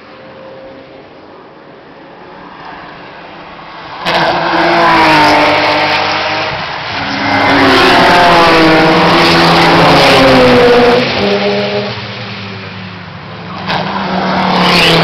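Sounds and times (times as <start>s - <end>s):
race cars passing: 0.0s - 15.0s.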